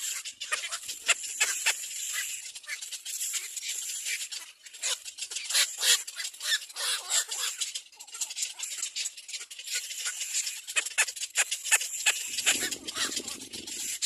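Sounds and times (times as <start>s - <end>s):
nestling birds begging calls: 0.0s - 14.0s.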